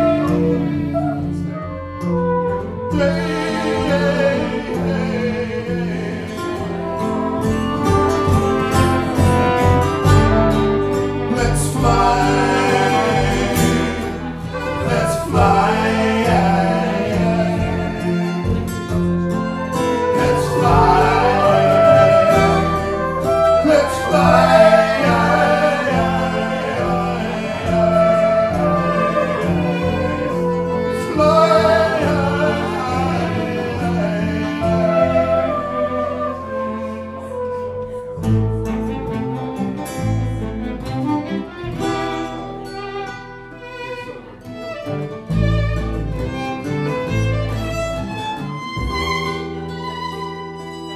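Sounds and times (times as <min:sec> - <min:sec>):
flugelhorn: 0:00.0 - 0:42.4
acoustic guitar: 0:00.0 - 0:50.9
double bass: 0:00.0 - 0:50.9
violin: 0:00.0 - 0:50.9.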